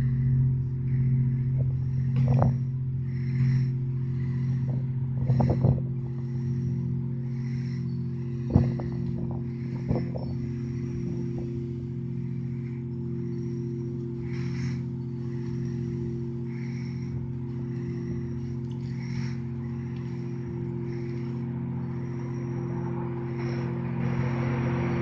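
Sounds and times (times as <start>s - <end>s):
electronic drone: 0.0s - 25.0s.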